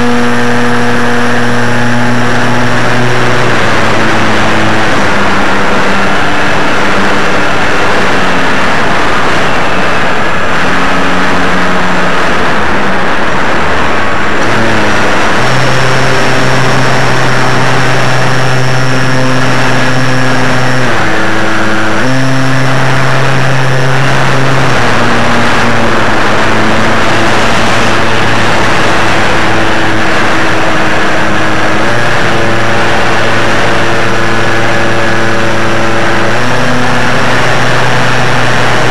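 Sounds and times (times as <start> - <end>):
wind rush: 0.0 - 36.4
propeller aircraft engine: 0.0 - 38.9.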